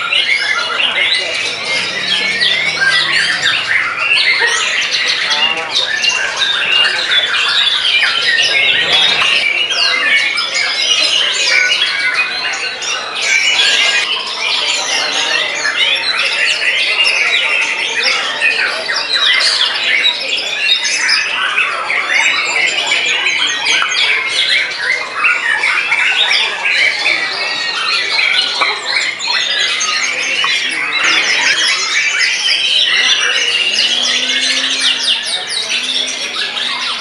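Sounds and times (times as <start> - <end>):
songbird singing: 0.0 - 14.2, 19.2 - 37.0.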